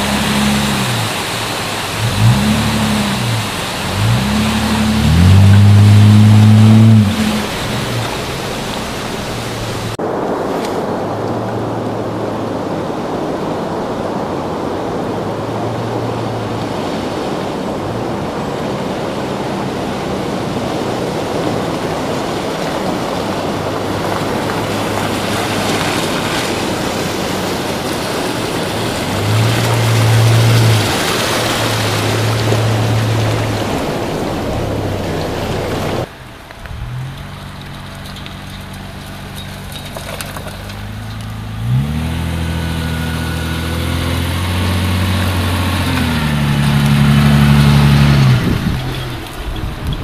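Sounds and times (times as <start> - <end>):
low engine hum: 0.0 - 50.0
water splashing around wheels: 0.0 - 50.0.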